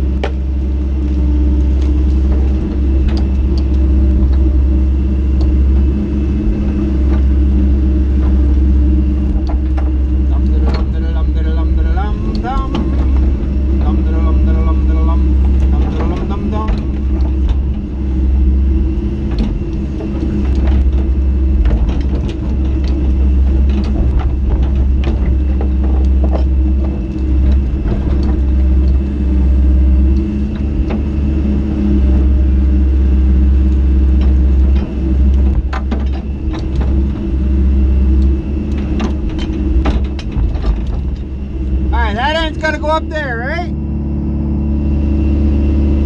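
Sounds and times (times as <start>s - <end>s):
excavator diesel engine running: 0.0s - 46.0s
metal clanks and knocks: 1.6s - 43.0s.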